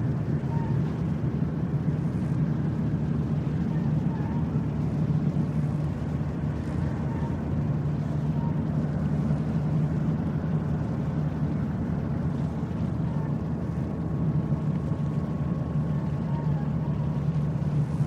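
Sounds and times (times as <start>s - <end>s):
ship engine low rumble: 0.0s - 18.0s.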